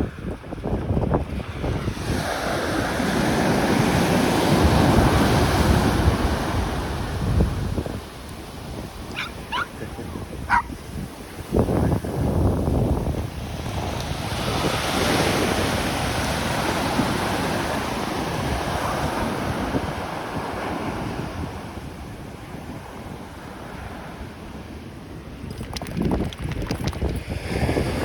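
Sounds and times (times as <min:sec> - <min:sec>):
wind buffeting microphone: 0:00.0 - 0:28.0
ocean surf breaking on shore: 0:01.3 - 0:25.4.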